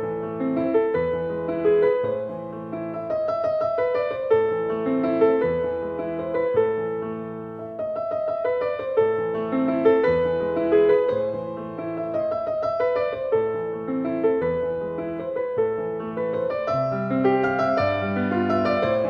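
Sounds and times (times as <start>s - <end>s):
gentle piano tune: 0.0s - 19.0s.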